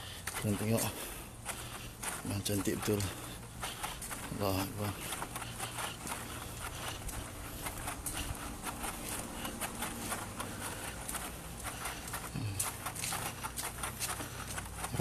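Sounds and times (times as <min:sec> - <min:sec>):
footsteps on hard paving: 0:00.0 - 0:15.0
steady low hum: 0:00.0 - 0:15.0.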